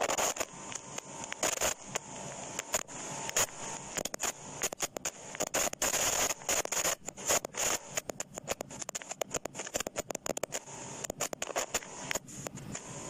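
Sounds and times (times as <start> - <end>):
microphone distortion crackle: 0.0 - 12.8.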